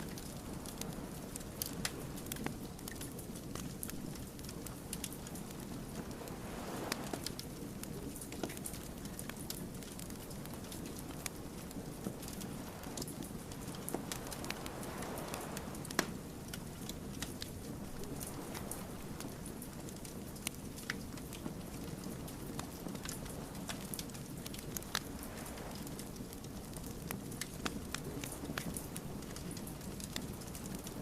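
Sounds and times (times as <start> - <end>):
low rumble of flames: 0.0 - 31.0
wood fire crackling: 0.0 - 31.0.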